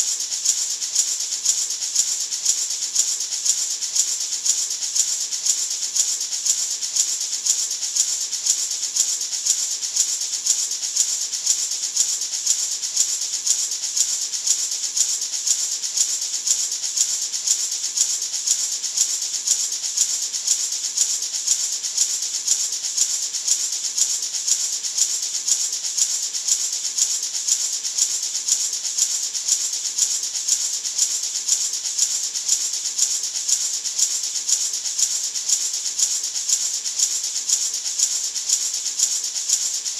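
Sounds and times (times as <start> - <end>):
maraca shaken: 0.0 - 39.9.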